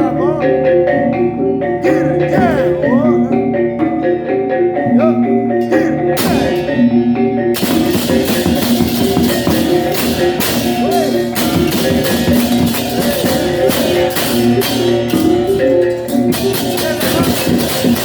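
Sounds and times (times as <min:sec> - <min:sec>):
gong-chime notes: 0:00.0 - 0:18.0
hand cymbals clashing: 0:00.0 - 0:18.0
drum strokes: 0:01.9 - 0:04.0, 0:05.6 - 0:18.0.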